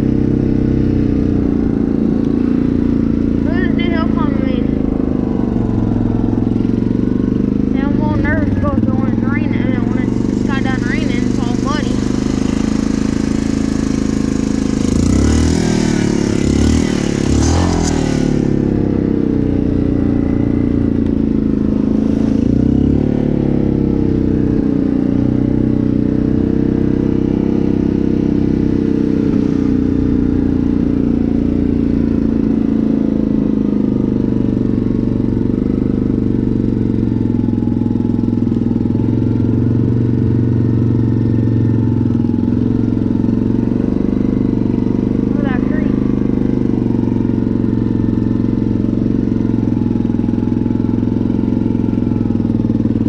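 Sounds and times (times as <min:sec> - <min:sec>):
engine revving: 0:00.0 - 0:53.0.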